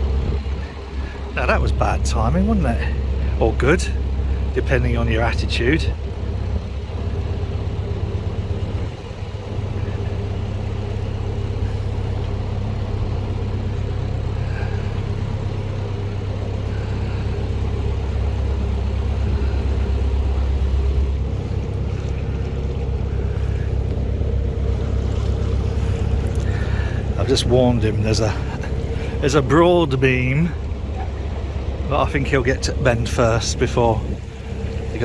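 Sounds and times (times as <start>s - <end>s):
boat diesel engine rumbling: 0.0s - 35.0s.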